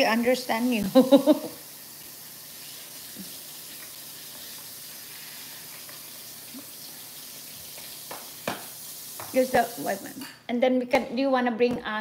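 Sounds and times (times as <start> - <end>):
room tone hiss: 0.0 - 10.7.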